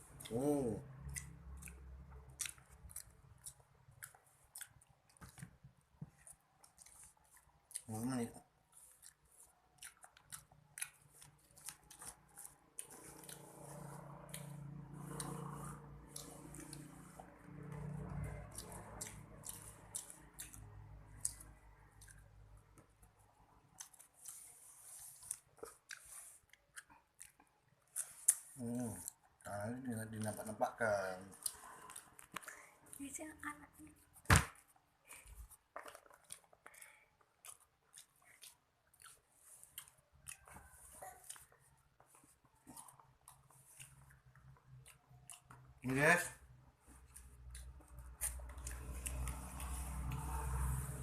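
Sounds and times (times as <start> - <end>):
person chewing food: 0.0 - 33.2, 33.9 - 51.0.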